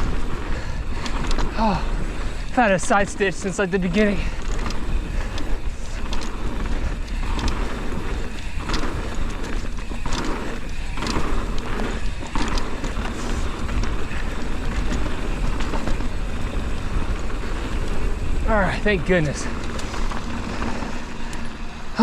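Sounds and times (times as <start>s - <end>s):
bike clicks and rattles: 0.0s - 22.0s
bike tyres rumbling on dirt: 0.0s - 22.0s.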